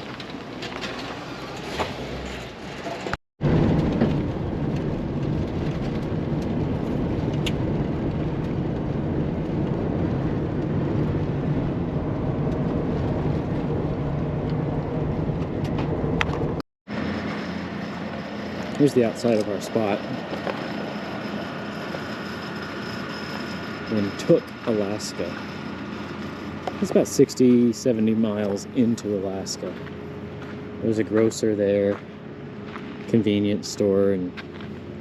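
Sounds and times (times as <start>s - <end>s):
road rumble: 0.0s - 35.0s
vehicle engine: 0.0s - 35.0s.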